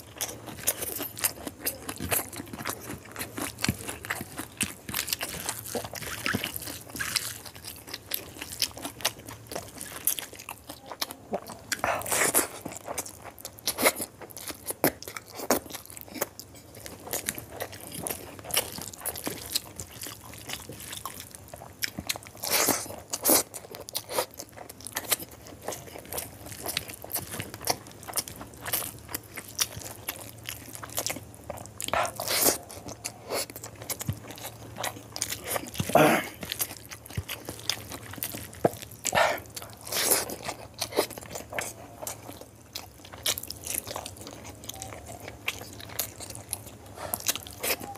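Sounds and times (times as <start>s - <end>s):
close chewing and smacking: 0.0s - 47.9s.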